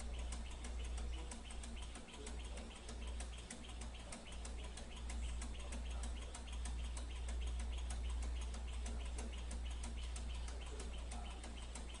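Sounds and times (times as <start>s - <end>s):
engine mechanism ticking: 0.0s - 12.0s.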